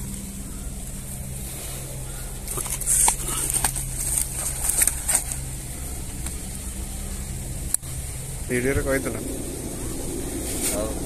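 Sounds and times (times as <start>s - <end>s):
rustling on dry grass: 0.0s - 7.4s, 9.4s - 11.0s
steady low hum: 0.0s - 11.0s.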